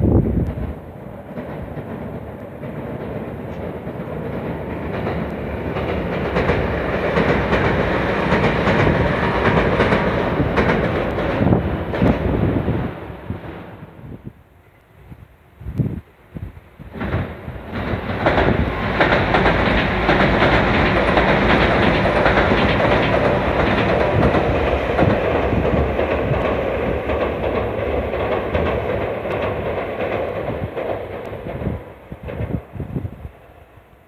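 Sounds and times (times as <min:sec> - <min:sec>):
train passing close by: 0:00.0 - 0:34.0.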